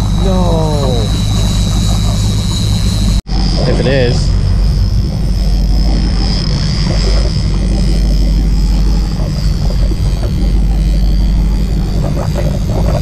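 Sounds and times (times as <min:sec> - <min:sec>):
boat engine rumbling: 0:00.0 - 0:13.0
faint high whine: 0:00.0 - 0:13.0.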